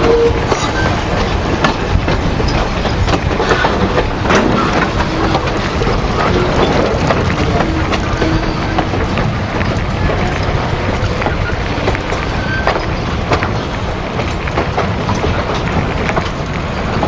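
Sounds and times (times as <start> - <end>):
steel wheels rumbling on rails: 0.0 - 17.0
wheels clicking over rail joints: 0.0 - 17.0.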